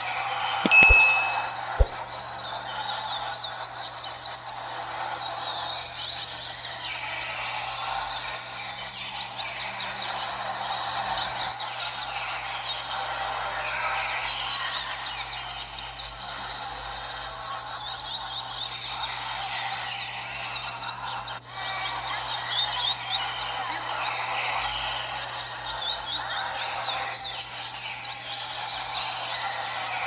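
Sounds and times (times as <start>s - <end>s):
chorus of birds chirping: 2.9s - 30.0s.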